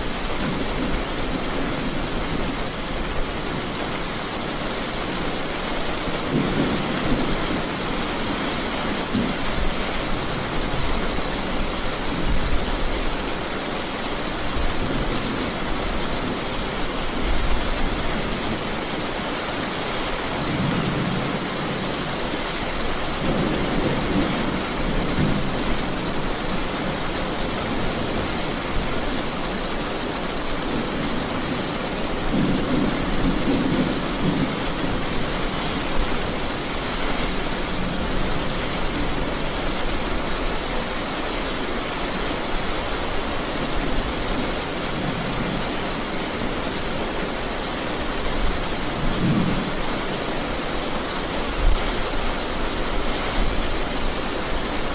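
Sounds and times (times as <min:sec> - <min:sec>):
heavy rain hissing: 0:00.0 - 0:54.9.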